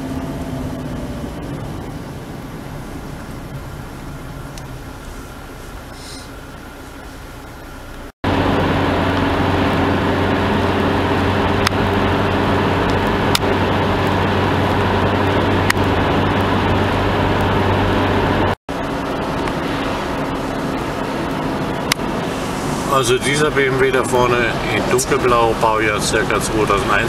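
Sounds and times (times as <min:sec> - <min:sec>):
car engine drone: 0:00.0 - 0:27.0.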